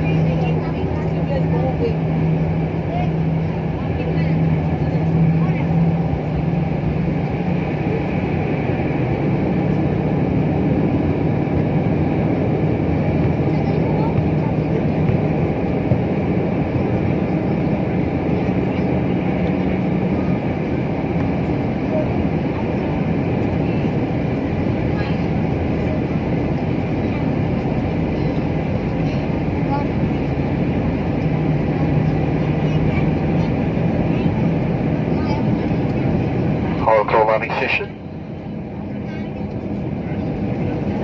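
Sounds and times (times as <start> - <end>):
airliner cabin rumble: 0.0 - 41.0
engine drone: 0.0 - 41.0.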